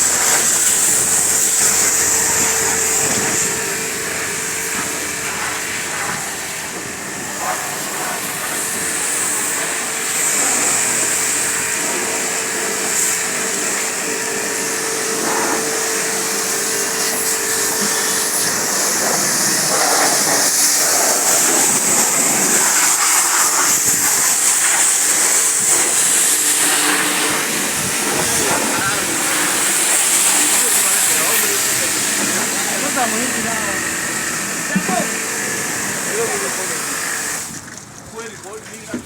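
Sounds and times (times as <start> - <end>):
steady hum: 0.0 - 37.0
water jet spraying: 0.0 - 39.0.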